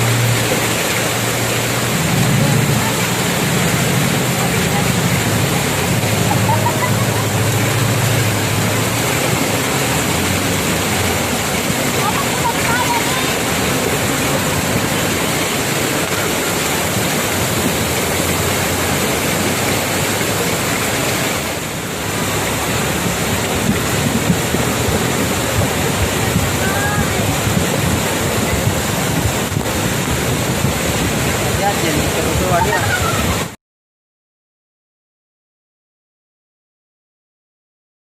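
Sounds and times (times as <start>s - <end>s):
floodwater rushing: 0.0s - 33.6s.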